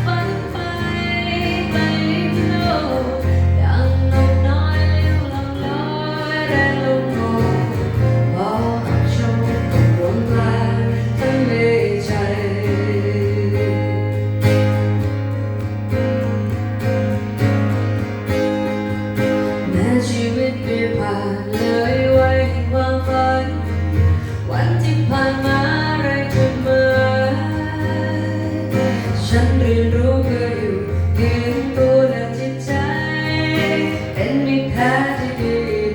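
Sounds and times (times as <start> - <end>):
live band with guitar and bass: 0.0 - 35.9.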